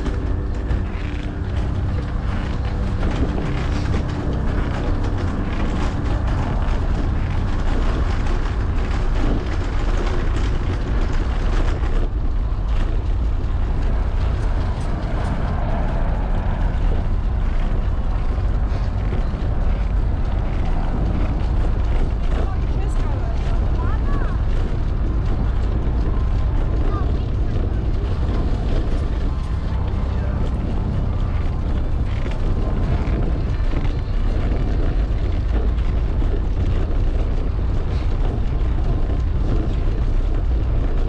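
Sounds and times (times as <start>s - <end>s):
bicycle clicks and rattles: 0.0s - 41.0s
tyres on brick pavers: 0.0s - 41.0s
wind buffeting microphone: 0.0s - 41.0s.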